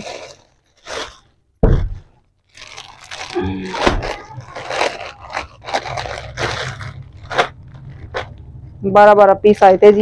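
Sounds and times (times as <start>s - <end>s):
plastic packets crinkling: 0.0s - 8.7s.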